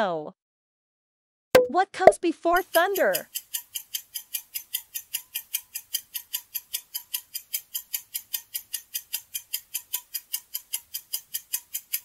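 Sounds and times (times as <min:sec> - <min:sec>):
clock ticking: 0:01.6 - 0:12.0.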